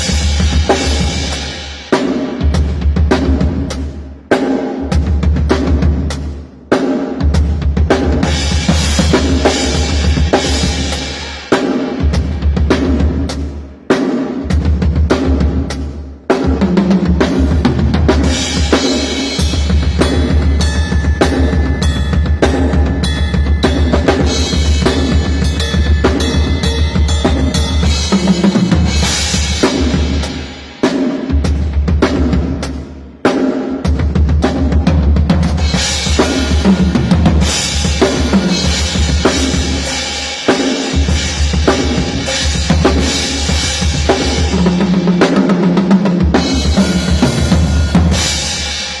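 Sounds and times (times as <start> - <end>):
drum kit beat: 0.0 - 49.0.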